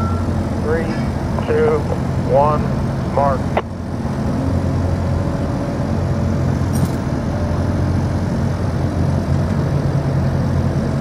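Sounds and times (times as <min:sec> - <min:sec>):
crane diesel engines rumbling: 0:00.0 - 0:11.0.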